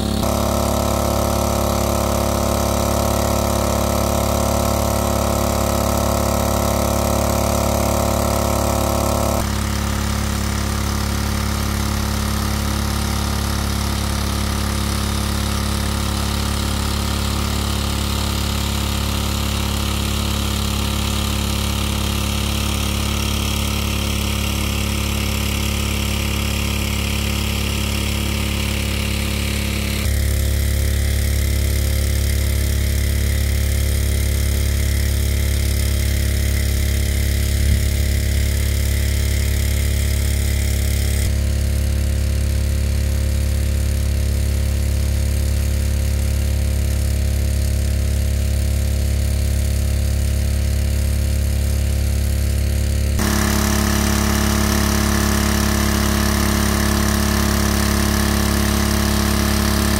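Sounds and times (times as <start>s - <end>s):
water gushing from hose: 0.0s - 41.4s, 53.2s - 59.9s
petrol water pump running: 0.0s - 59.9s.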